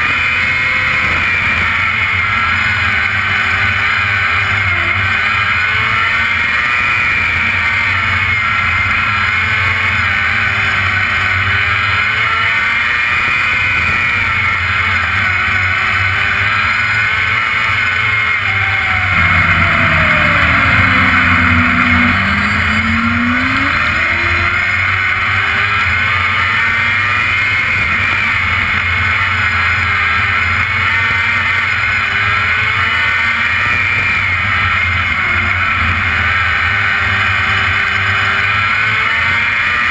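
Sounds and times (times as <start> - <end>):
race car engine running hard: 0.0 - 39.9
second car engine: 0.0 - 39.9.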